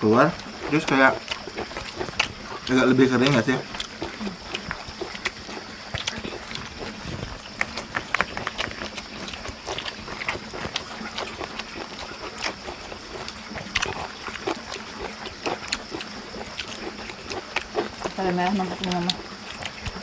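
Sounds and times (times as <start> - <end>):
people chewing and lip smacking: 0.0 - 20.0.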